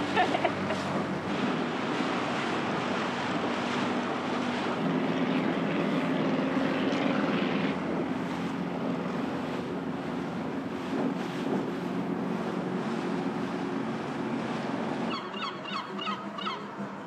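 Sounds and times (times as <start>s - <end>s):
wind on microphone: 0.0s - 15.1s
propeller planes droning: 0.0s - 17.0s
water: 0.0s - 17.0s.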